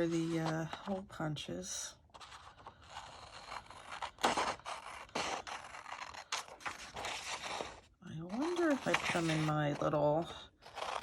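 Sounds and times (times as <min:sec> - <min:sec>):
paper rustling and scraping: 0:00.0 - 0:01.0, 0:02.1 - 0:11.0.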